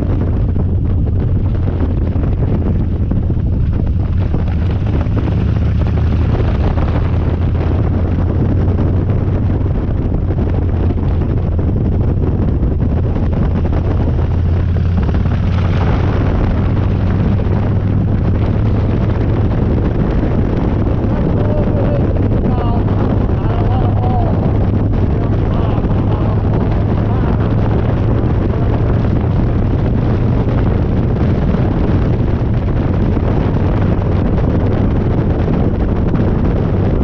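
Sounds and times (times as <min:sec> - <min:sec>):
motorcycle engine droning: 0:00.0 - 0:37.0
wind buffeting microphone: 0:00.0 - 0:37.0.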